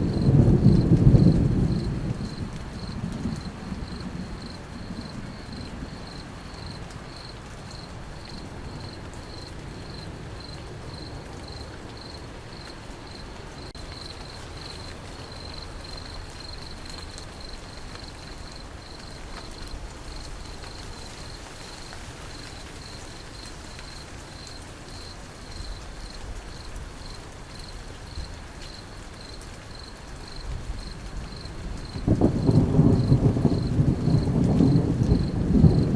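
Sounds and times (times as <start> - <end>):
cricket chirping: 0.0 - 35.9
steady rain: 0.0 - 35.9.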